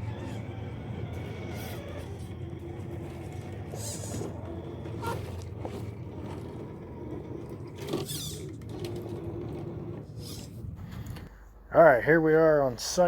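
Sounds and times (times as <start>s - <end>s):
toy truck motor humming: 0.0s - 11.2s.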